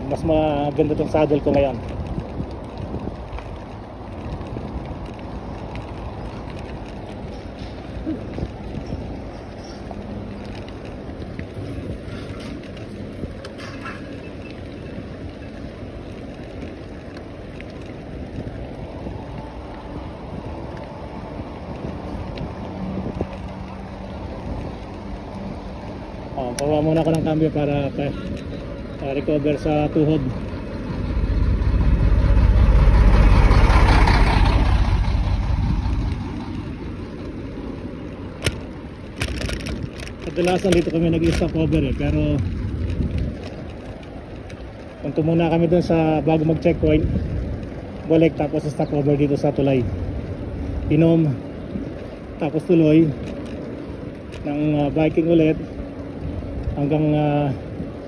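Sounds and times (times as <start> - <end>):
diesel truck engine rumble: 0.0 - 58.0
wind buffeting microphone: 0.0 - 58.0.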